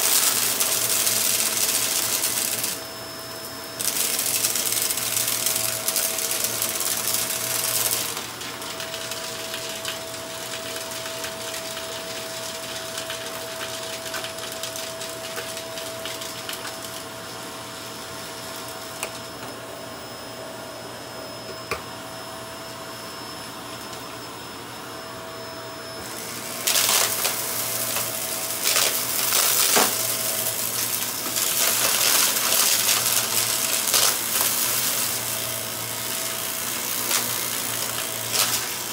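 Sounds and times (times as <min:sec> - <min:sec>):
debris rattling in vacuum: 0:00.0 - 0:02.8, 0:03.8 - 0:19.4, 0:26.0 - 0:38.9
vacuum cleaner whining: 0:00.0 - 0:38.9.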